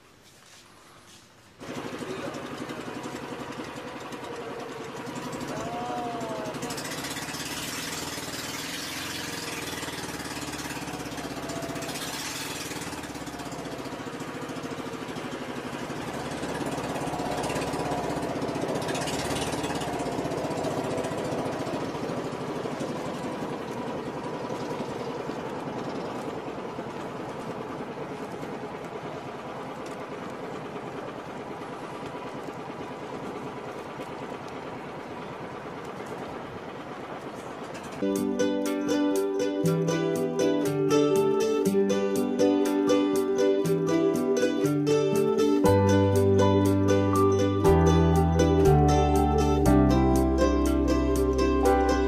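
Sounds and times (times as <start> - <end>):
boat engine running: 1.5 - 52.0.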